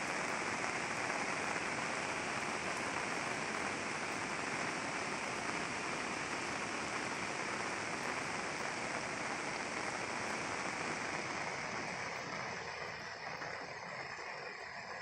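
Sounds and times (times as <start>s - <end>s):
rain falling on flooded fields: 0.0s - 15.0s.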